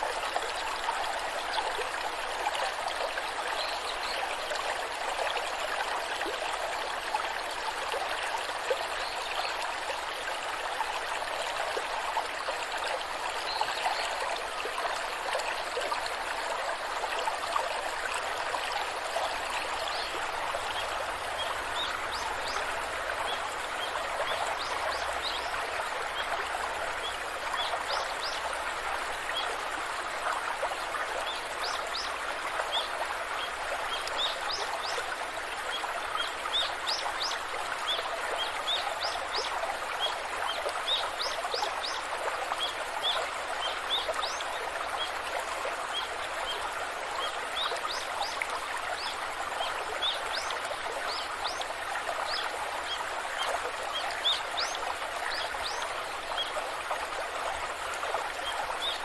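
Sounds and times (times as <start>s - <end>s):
rushing waterfall: 0.0s - 59.0s.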